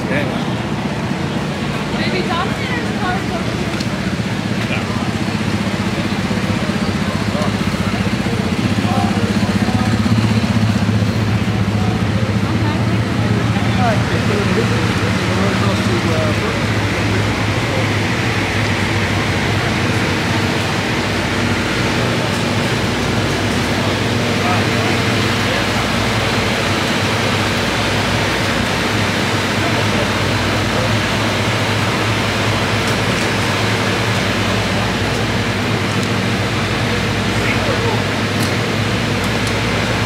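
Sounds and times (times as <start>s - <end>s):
machine drone with hum and hiss: 0.0s - 40.0s.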